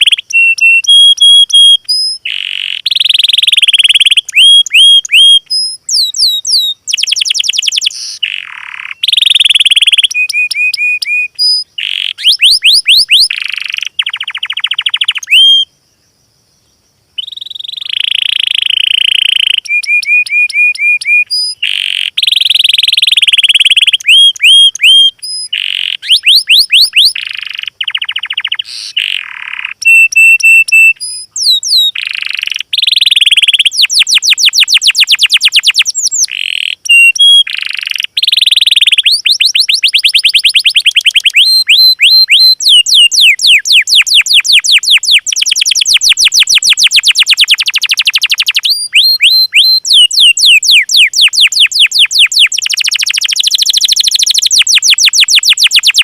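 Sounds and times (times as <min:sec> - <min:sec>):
high-pitched songbird song: 0:00.0 - 0:56.0.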